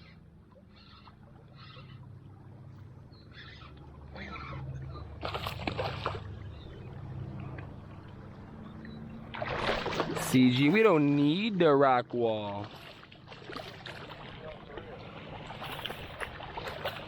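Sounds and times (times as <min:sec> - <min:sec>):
river water sloshing and splashing: 0:00.0 - 0:17.0.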